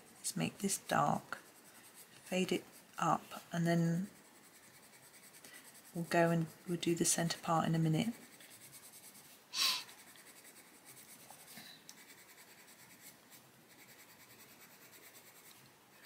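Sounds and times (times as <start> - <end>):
pencil scratching on paper: 0.0 - 16.0.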